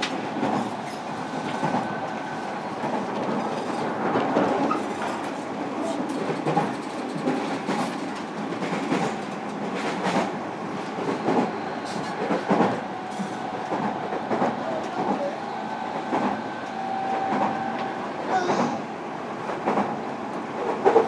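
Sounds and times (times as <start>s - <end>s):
train rolling rumble: 0.0s - 21.0s.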